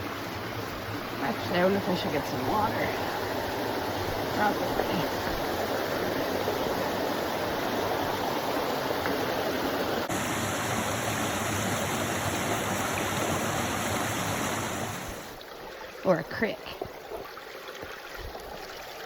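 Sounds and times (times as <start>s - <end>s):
river rushing: 0.0s - 17.8s.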